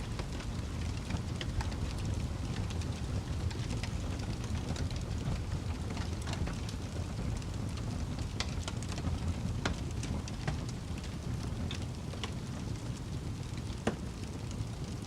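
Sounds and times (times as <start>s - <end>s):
fire crackling and popping: 0.0s - 15.0s
fire flame rushing: 0.0s - 15.0s.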